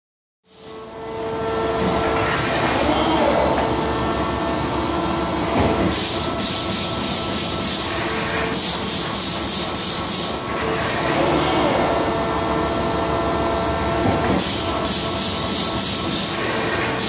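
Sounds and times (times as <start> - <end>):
punch press mechanical hum: 0.5 - 17.0.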